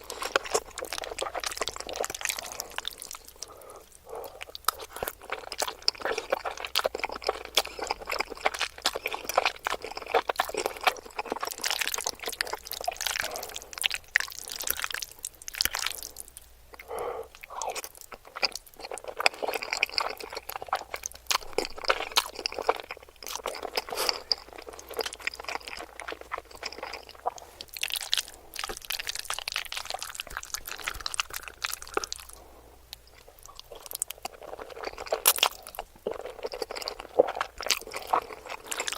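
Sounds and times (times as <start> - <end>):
chewing with wet mouth clicks: 0.0 - 38.9
crunching food: 0.0 - 38.9.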